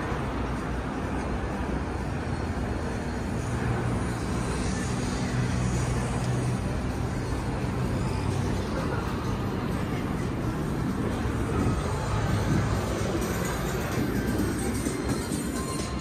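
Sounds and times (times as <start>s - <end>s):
street traffic noise: 0.0s - 16.0s
vehicle engine hum: 0.0s - 16.0s.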